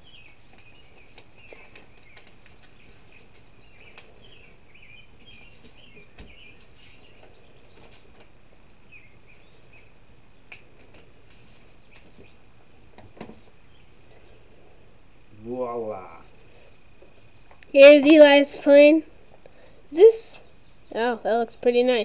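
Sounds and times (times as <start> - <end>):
outdoor hush: 0.0 - 22.0
songbirds chirping: 0.0 - 22.0.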